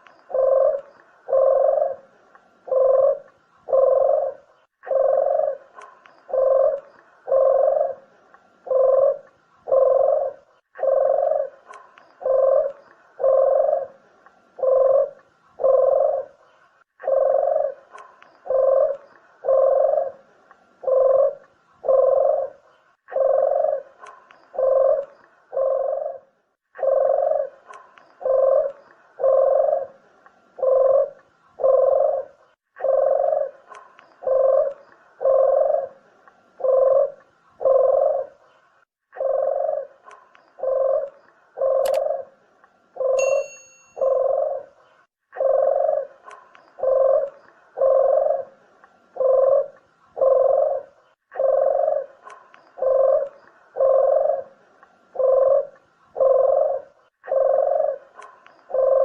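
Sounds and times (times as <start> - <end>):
dove cooing: 0.0 - 42.4, 43.0 - 59.0.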